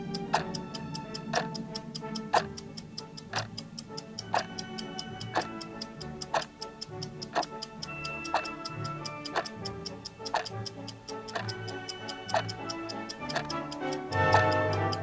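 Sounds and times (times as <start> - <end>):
background music with held notes: 0.0 - 15.0
clock ticking: 0.0 - 15.0.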